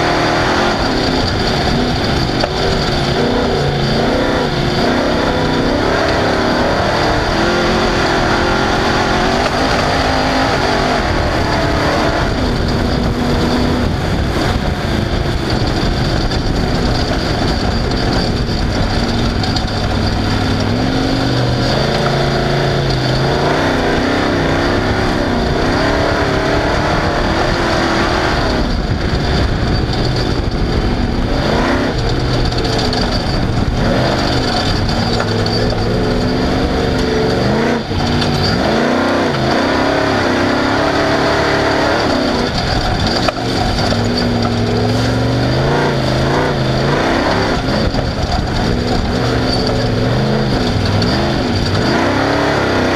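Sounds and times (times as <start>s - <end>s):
mechanical driving noise: 0.0s - 52.9s
race car engine revving: 0.0s - 52.9s.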